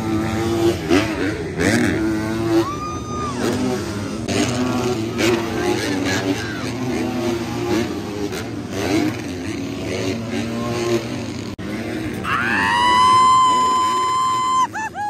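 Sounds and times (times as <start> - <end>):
dirt bikes racing past: 0.0 - 15.0.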